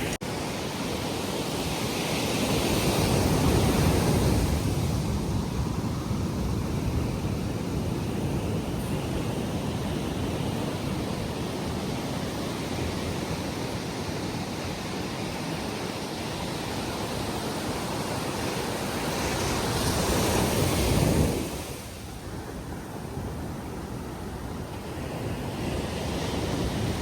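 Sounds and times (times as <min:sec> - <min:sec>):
small waves washing on beach: 0:00.0 - 0:27.0.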